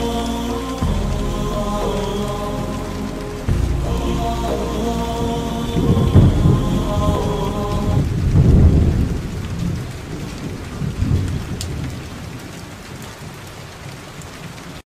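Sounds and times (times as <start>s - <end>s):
thunder rolling: 0.0s - 12.3s
rain on wet ground: 0.0s - 14.8s.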